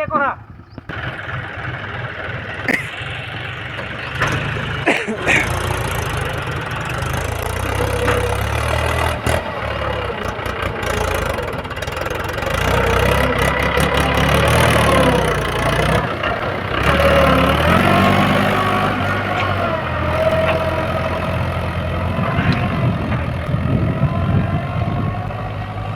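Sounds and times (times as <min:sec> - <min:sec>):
diesel engines running: 0:00.0 - 0:25.9.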